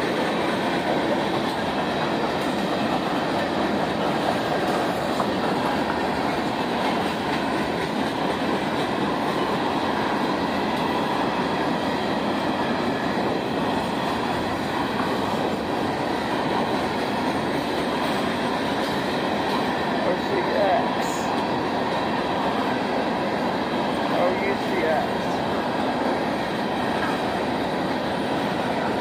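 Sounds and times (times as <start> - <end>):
train wheels on track: 0.0 - 29.0.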